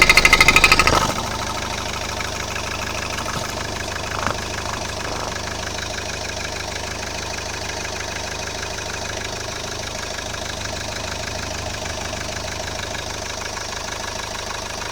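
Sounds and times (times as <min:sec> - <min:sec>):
diesel engine idling: 0:00.0 - 0:14.9
fast ticking clatter: 0:00.0 - 0:14.9.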